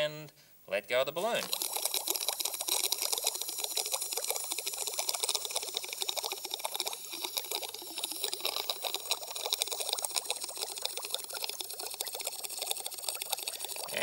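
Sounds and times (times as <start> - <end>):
air bubbling under water: 1.4 - 14.0.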